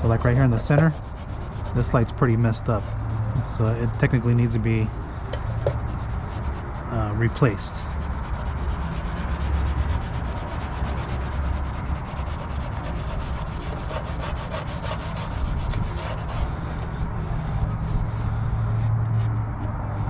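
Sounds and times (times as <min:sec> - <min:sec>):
wipe scrubbing plastic lens: 0:00.0 - 0:20.0.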